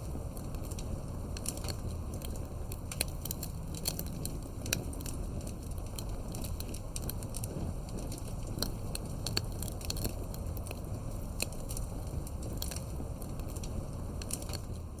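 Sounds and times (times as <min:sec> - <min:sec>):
fire crackling and popping: 0:00.0 - 0:15.0
low rush of flame: 0:00.0 - 0:15.0.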